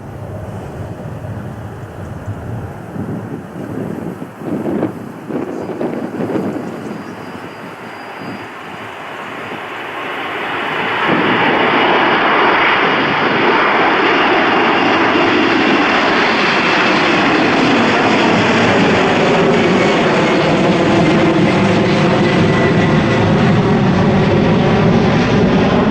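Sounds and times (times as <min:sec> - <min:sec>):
jet engines roaring: 0:00.0 - 0:25.9
wind buffeting microphone: 0:00.0 - 0:25.9.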